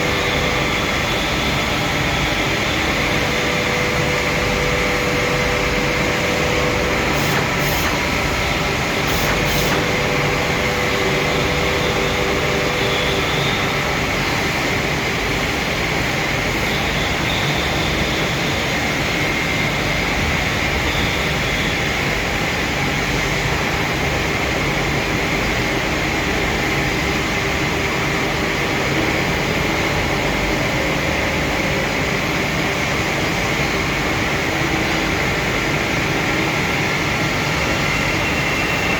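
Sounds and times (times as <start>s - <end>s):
machine running steadily: 0.0s - 38.9s.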